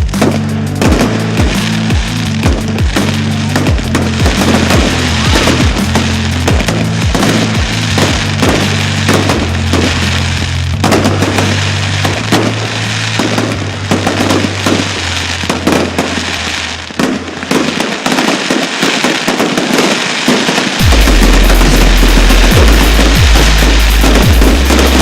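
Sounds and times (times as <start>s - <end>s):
music with low bass notes: 0.0s - 16.7s, 20.8s - 25.0s
fireworks crackling and banging: 0.0s - 25.0s.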